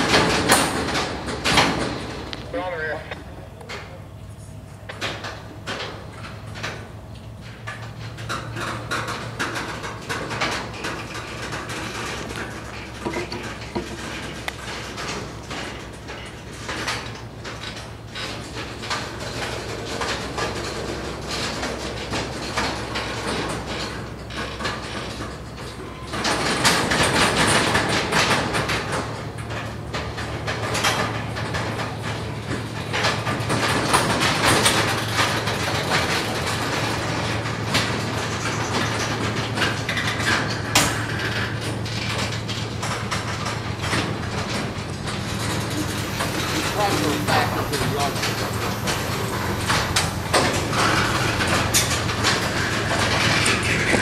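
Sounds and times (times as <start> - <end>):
train wheels clicking on rails: 0.0 - 3.9, 4.9 - 54.0
steady low hum: 0.0 - 54.0.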